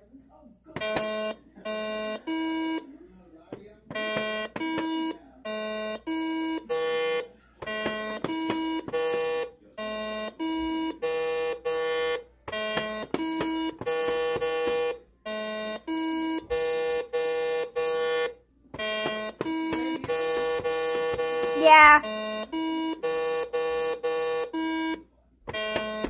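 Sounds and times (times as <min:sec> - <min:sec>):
electronic game tones: 0:03.9 - 0:26.0.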